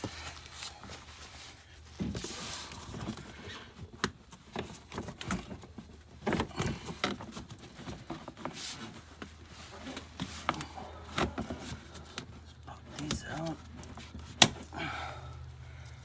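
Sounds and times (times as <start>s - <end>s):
tools and car parts clattering: 1.9s - 15.0s.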